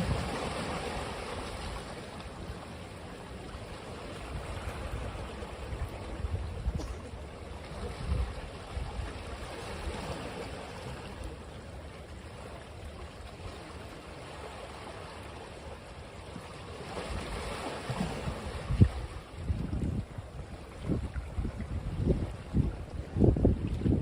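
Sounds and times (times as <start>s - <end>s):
ocean waves washing on beach: 0.0s - 24.0s.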